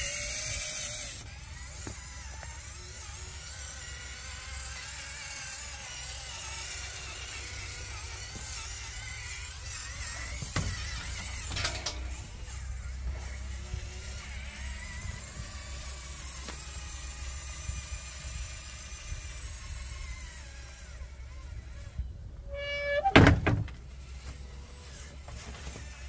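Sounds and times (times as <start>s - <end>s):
electric motor and gearbox whine: 0.0s - 26.0s.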